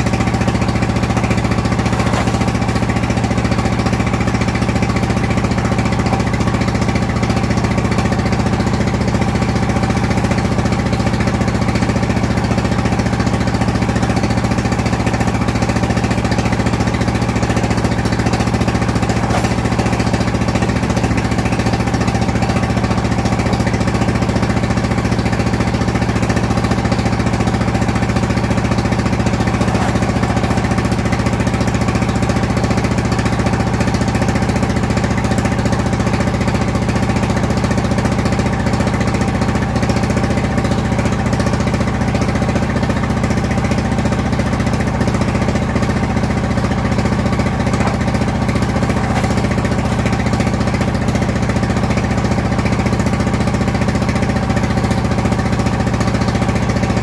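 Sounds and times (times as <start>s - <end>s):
brick-moulding machine droning: 0.0s - 57.0s.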